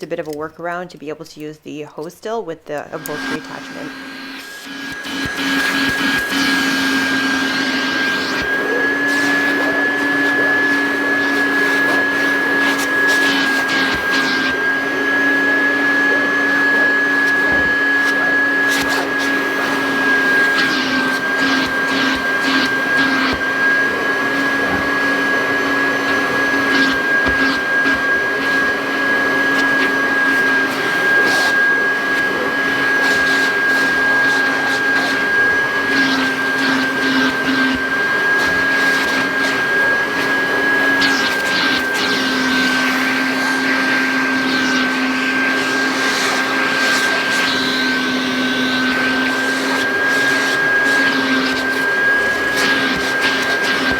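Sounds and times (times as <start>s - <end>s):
vacuum cleaner running: 2.7s - 53.9s.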